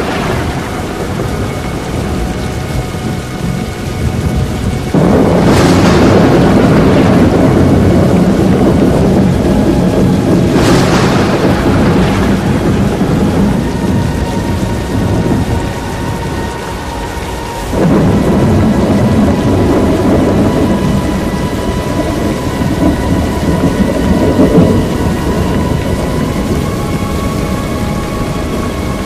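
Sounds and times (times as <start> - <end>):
heavy rain: 0.0 - 29.0
tornado wind roaring: 0.0 - 29.0.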